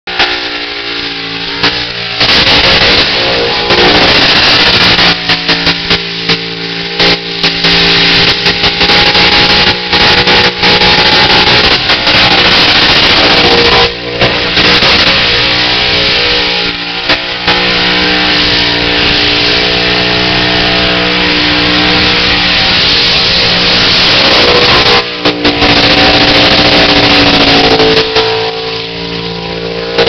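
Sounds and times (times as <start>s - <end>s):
car engine revving high: 0.1s - 30.0s
tyres spinning on asphalt: 0.1s - 30.0s.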